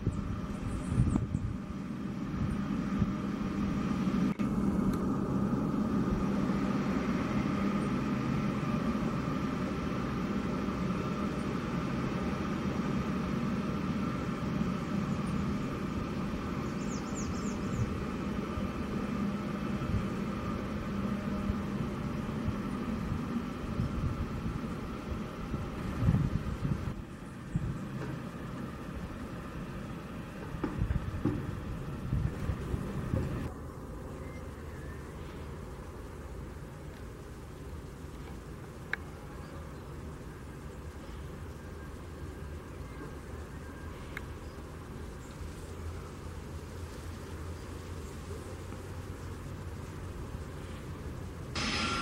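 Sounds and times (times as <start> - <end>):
jet engines whining at taxi power: 0.0 - 52.0.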